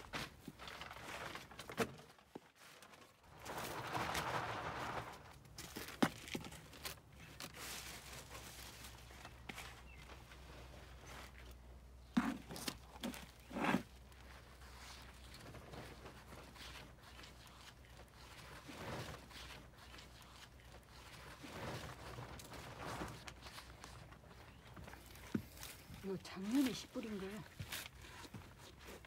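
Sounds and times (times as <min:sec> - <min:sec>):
rustling and scraping soil: 0:00.0 - 0:29.0.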